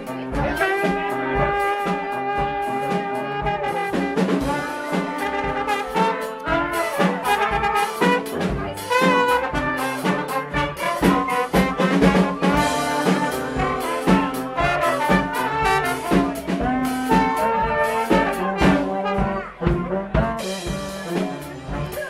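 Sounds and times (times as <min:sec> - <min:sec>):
brass band playing: 0:00.0 - 0:22.0
drum kit beat: 0:00.0 - 0:22.0.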